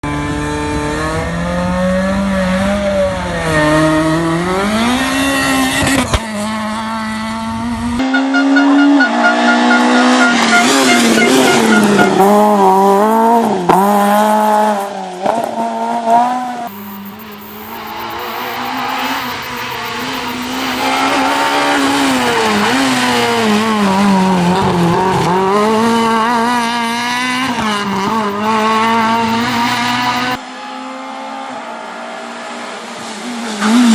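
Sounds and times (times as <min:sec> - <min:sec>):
rally car engines revving: 0:00.1 - 0:30.4.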